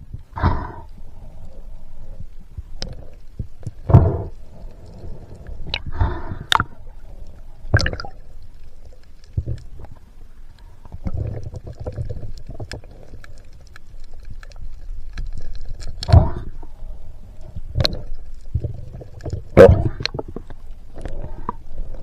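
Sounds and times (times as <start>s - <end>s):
water sloshing and rushing: 3.0s - 22.0s.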